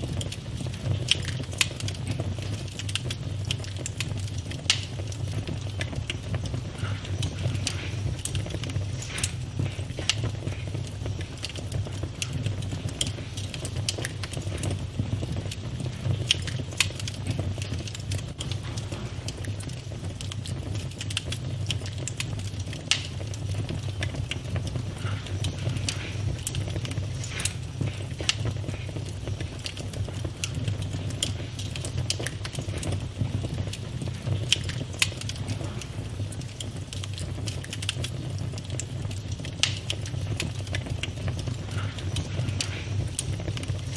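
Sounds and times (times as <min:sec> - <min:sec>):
campfire flame rumble: 0:00.0 - 0:43.9
fire crackles and pops: 0:00.0 - 0:43.9.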